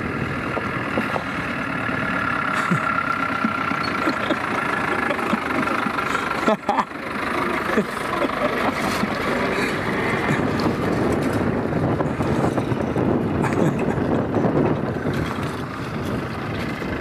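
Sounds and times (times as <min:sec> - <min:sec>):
tyres crunching over gravel: 0:00.0 - 0:17.0
vehicle engine running: 0:00.0 - 0:17.0.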